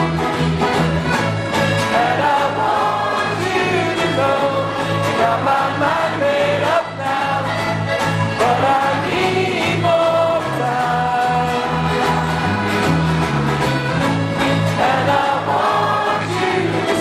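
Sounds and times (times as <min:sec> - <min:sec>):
instrumental accompaniment with bass beat: 0:00.0 - 0:17.0
group singing: 0:01.7 - 0:13.4, 0:14.0 - 0:17.0.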